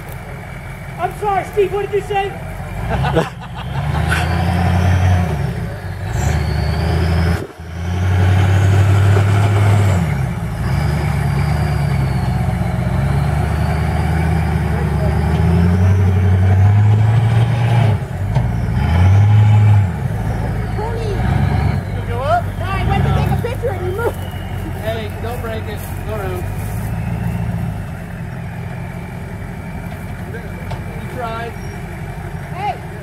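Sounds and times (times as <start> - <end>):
truck engine under load: 0.0 - 33.0.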